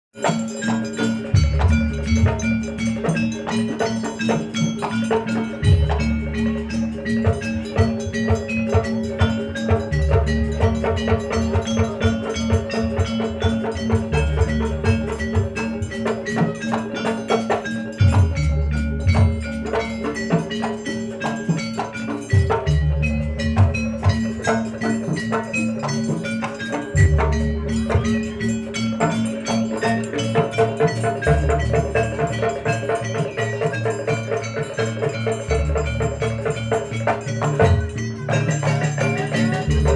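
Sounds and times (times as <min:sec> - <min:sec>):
metallophone notes: 0:00.2 - 0:39.9.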